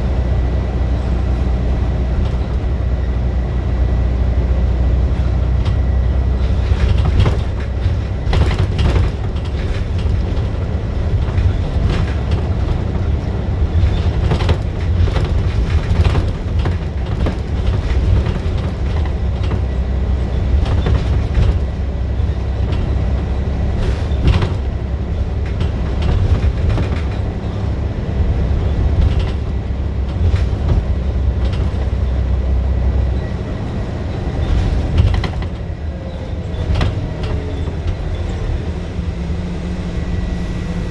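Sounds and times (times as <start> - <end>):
bus engine rumbling: 0.0 - 40.9
knocks and rattles: 4.8 - 39.0.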